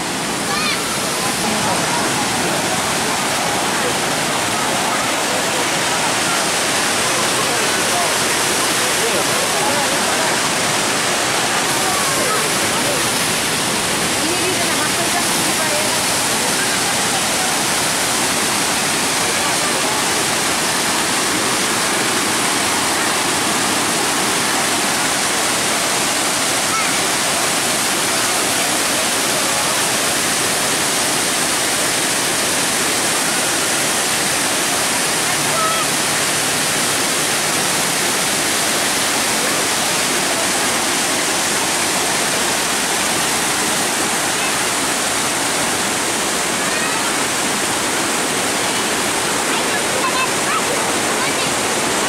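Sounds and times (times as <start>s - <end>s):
waterfall rushing over rocks: 0.0s - 52.0s.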